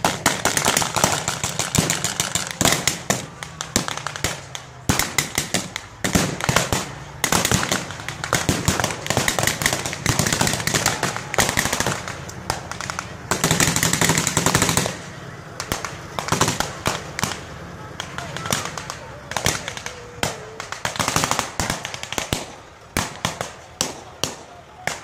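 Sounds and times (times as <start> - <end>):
blank gunfire: 0.0 - 25.0
machine-gun volleys: 0.0 - 25.0
tank engine driving past: 0.0 - 25.0.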